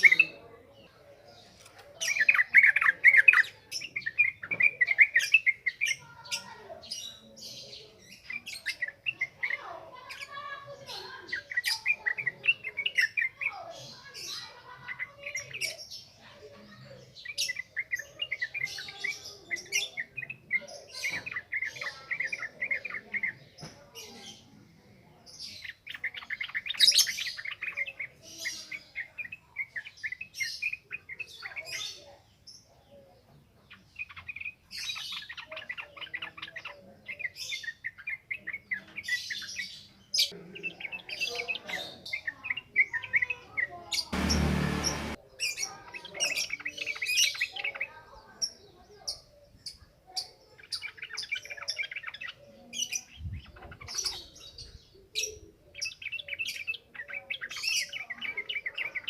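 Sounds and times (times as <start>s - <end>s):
bird chattering song: 0.0s - 16.2s, 17.0s - 24.5s, 25.3s - 32.8s, 33.7s - 59.0s.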